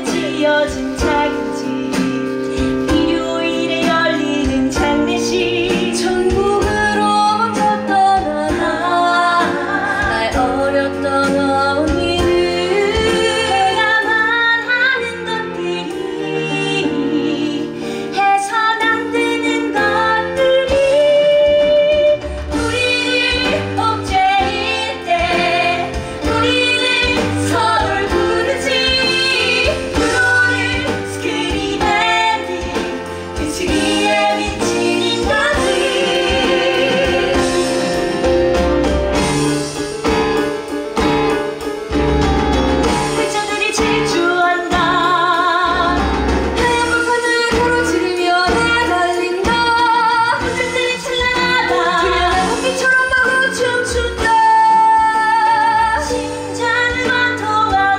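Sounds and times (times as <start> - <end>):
women singing: 0.0 - 38.7, 42.9 - 57.9
instrumental backing music: 0.0 - 57.9.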